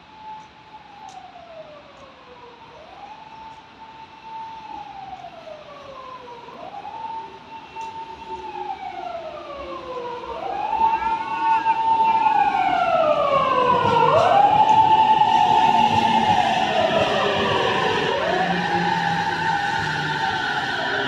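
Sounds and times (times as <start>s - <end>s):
emergency vehicle siren wailing: 0.0s - 21.0s.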